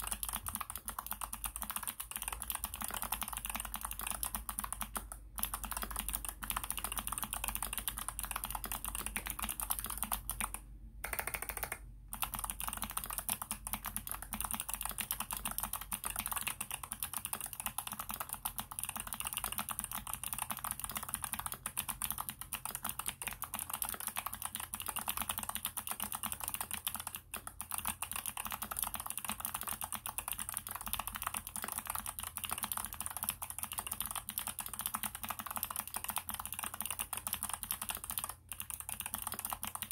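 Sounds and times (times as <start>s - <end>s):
mechanical keyboard typing clicks: 0.0s - 39.9s.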